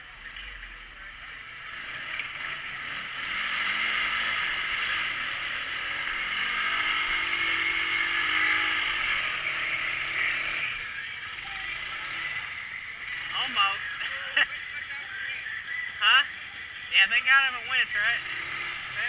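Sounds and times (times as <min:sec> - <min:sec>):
utv engine revving: 0:00.7 - 0:14.5, 0:17.0 - 0:19.0.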